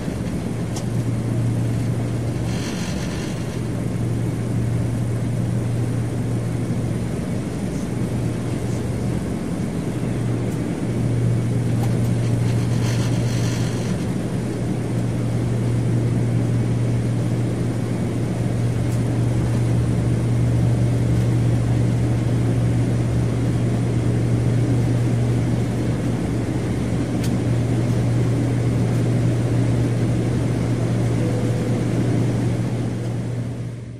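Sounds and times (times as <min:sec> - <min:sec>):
airplane engine drone: 0:00.0 - 0:33.9.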